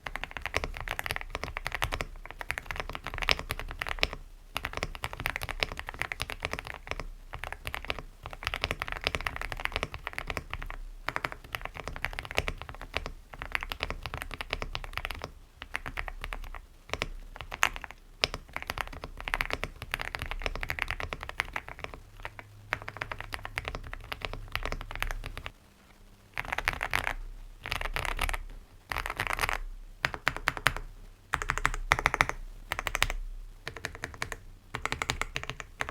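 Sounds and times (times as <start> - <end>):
mechanical keyboard typing: 0.0 - 25.5, 26.3 - 35.9.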